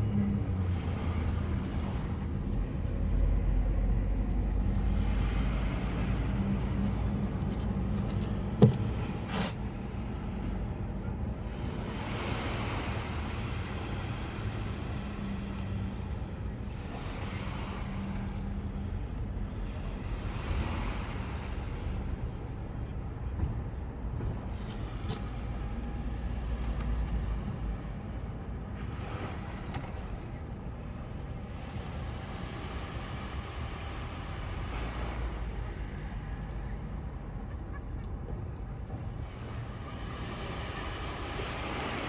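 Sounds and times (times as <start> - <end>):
sea waves washing in: 0.8 - 37.8, 39.0 - 42.0.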